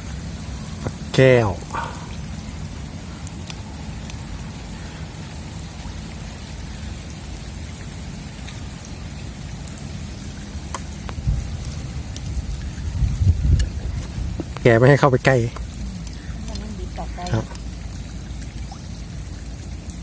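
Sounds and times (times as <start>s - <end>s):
heavy rain falling: 0.0s - 20.0s
sharp raindrop hits: 0.0s - 20.0s.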